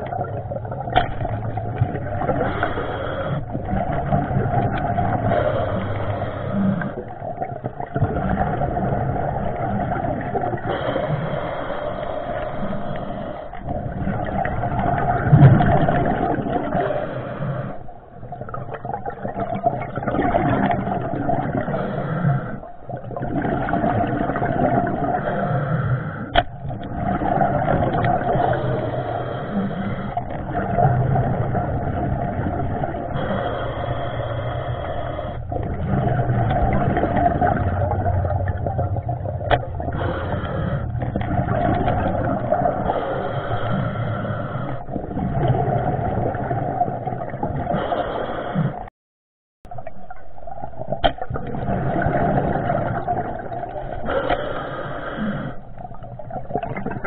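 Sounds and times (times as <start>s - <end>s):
muffled underwater rushing: 0.0s - 48.9s, 49.7s - 57.0s.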